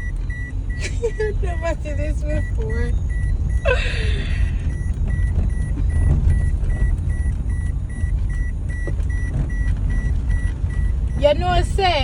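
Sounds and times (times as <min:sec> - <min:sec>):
electronic warning beeps: 0:00.0 - 0:01.4, 0:02.0 - 0:03.7, 0:04.3 - 0:11.8
vehicle engine and road noise: 0:00.0 - 0:12.0.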